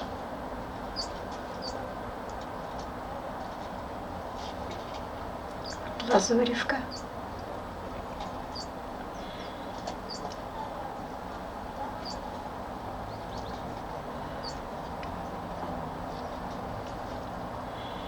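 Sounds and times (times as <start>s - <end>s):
tits chirping: 0.8s - 3.0s, 5.4s - 18.0s.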